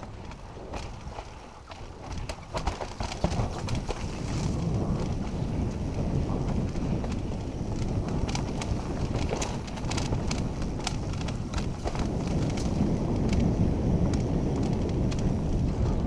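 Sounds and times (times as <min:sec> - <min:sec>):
bike clicking and rattling: 0:00.0 - 0:16.0
bike tyres rumbling on stones: 0:00.0 - 0:16.0.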